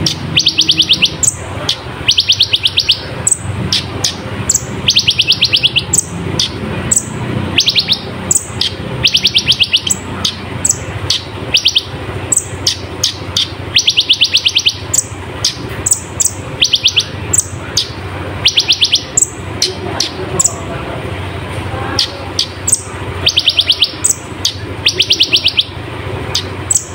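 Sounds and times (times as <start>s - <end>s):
sunbird trilling song: 0.0s - 20.7s, 22.0s - 26.9s.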